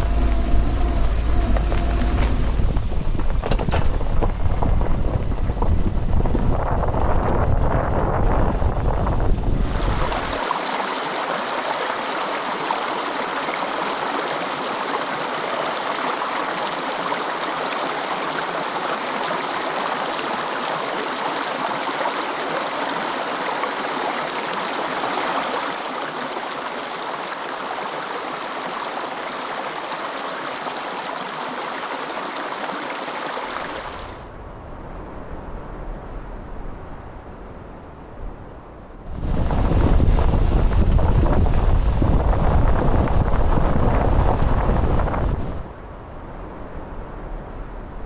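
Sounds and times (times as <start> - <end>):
rushing stream water: 0.0 - 38.2, 38.8 - 48.0.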